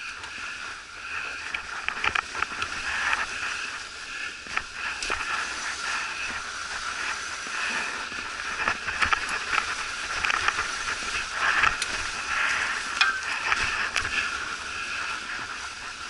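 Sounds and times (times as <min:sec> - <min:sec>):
bike clicks and knocks over bumps: 0:00.0 - 0:16.0
bike tyres rolling through snow: 0:00.0 - 0:16.0.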